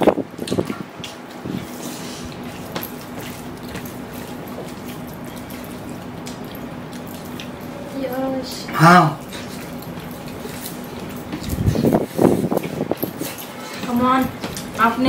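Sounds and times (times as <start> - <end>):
wet chewing and slurping: 0.0 - 8.4, 9.1 - 14.8
steady low hum: 0.0 - 15.0.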